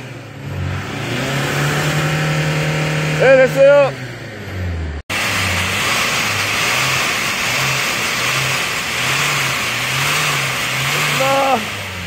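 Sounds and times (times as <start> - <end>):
car exhaust rushing: 0.0 - 12.0.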